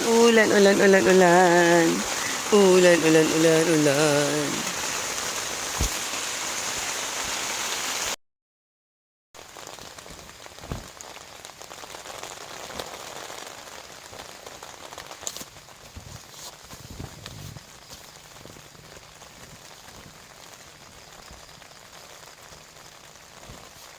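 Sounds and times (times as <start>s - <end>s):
steady rain: 0.0s - 8.2s, 9.4s - 23.9s.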